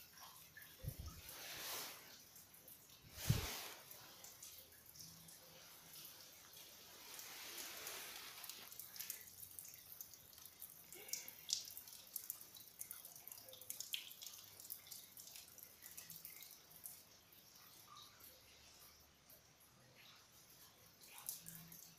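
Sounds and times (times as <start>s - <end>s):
water dripping: 0.0s - 21.9s
light hiss: 0.3s - 19.4s.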